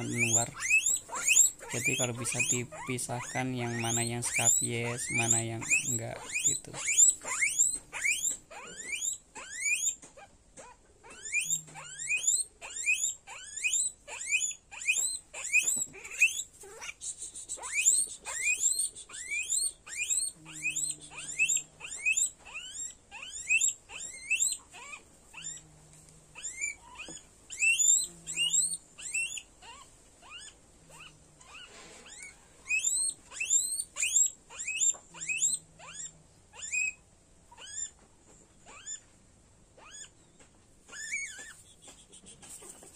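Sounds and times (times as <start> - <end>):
guinea pig squealing: 0.0 - 25.7, 26.3 - 38.0, 38.6 - 39.1, 39.7 - 40.2, 40.9 - 42.9.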